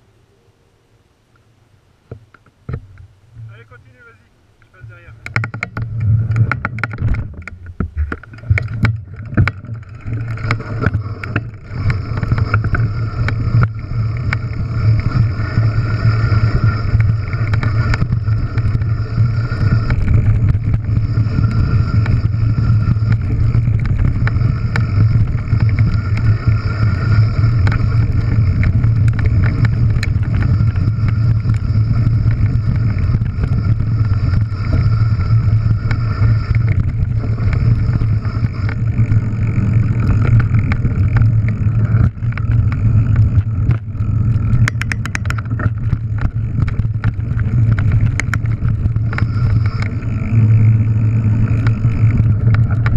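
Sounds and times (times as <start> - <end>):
wind rumble on microphone: 2.1 - 52.9
bike clattering and knocking: 5.2 - 15.2, 16.3 - 50.0.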